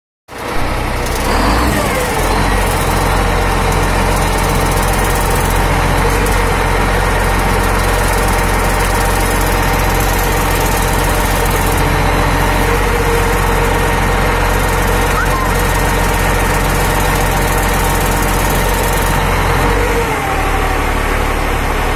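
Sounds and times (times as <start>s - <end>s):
diesel engine idling: 0.3s - 21.9s.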